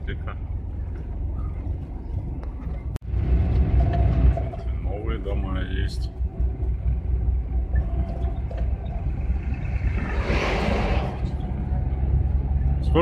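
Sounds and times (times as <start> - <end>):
van engine and tyres rumbling: 0.0 - 13.0.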